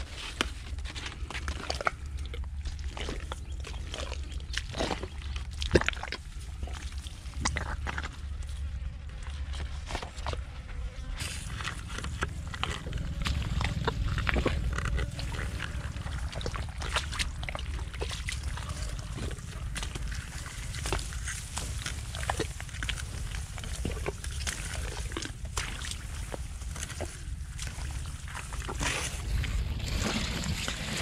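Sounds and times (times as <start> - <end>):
leaves rustling against microphone: 0.0 - 31.0
low microphone rumble: 0.0 - 31.0.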